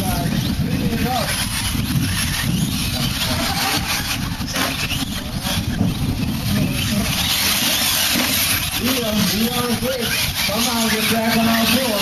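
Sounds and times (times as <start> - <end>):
toy truck motors running: 0.0 - 12.0
tyres on dirt: 0.0 - 12.0.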